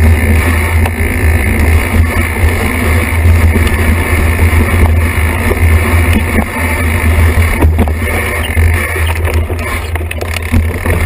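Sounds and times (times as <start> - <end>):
bike knocks and rattles: 0.0 - 11.0
bike tyre rumbling on dirt: 0.0 - 11.0.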